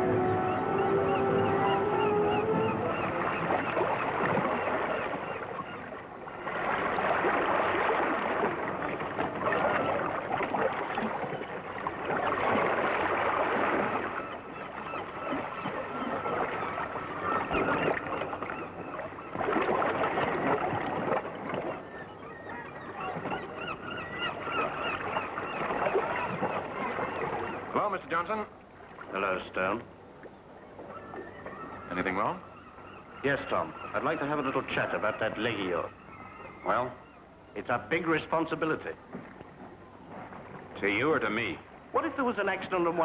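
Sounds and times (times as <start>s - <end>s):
gulls crying and squawking: 0.0s - 7.9s, 9.3s - 28.4s, 30.8s - 38.8s.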